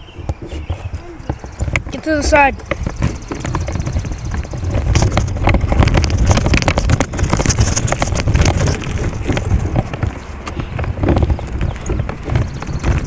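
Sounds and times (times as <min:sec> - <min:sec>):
bike clicks and rattles: 0:00.0 - 0:13.0
wind rumbling on microphone: 0:00.0 - 0:13.0.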